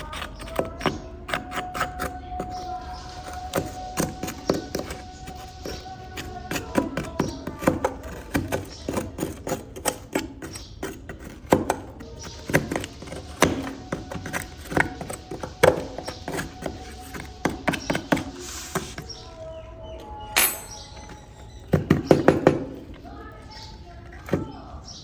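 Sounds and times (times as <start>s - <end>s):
quiet background music: 0.0s - 25.0s.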